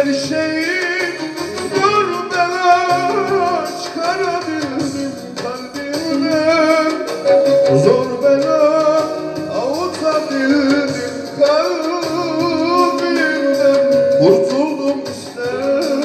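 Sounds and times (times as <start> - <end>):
backing track music: 0.0 - 16.0
man singing long notes: 2.5 - 16.0.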